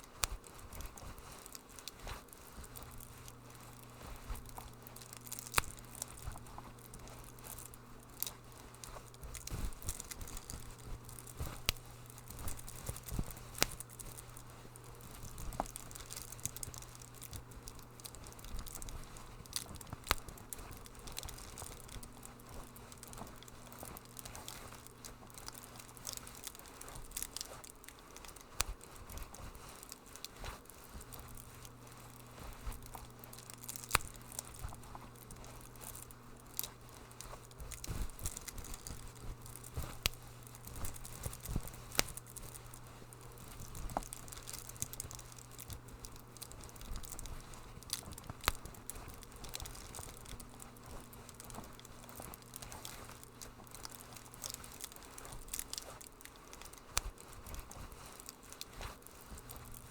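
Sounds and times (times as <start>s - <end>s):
faint low hum: 0.0s - 59.9s
wood fire crackling and popping: 0.0s - 59.9s.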